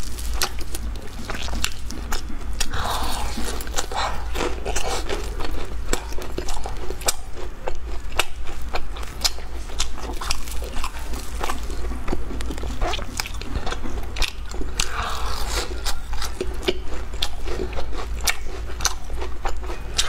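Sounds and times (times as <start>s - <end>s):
chewing sounds: 0.0s - 20.0s
low steady hum: 0.0s - 20.0s.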